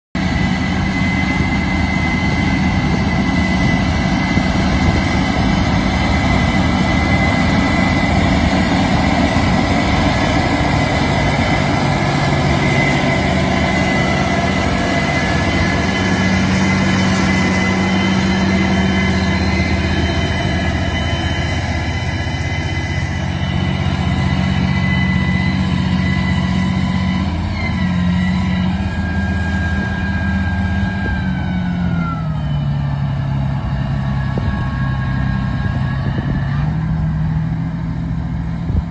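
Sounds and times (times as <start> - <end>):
high engine whine: 0.1 - 38.9
tractor diesel engine under load: 0.1 - 38.9.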